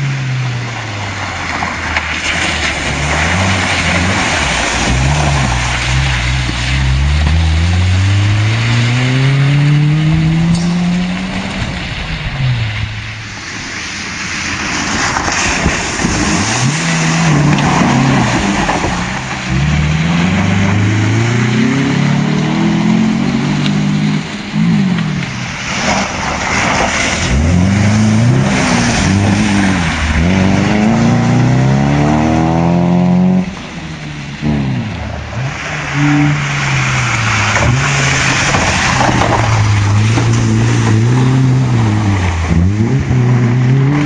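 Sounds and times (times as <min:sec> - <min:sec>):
rally car engines revving: 0:00.0 - 0:44.0
tyres throwing up gravel: 0:00.8 - 0:21.6, 0:24.5 - 0:32.3, 0:35.1 - 0:44.0.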